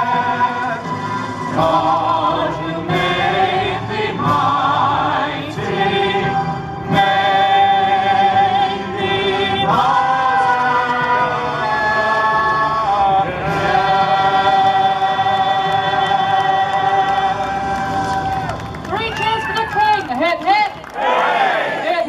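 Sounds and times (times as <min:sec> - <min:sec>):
group singing through pa: 0:00.0 - 0:17.7.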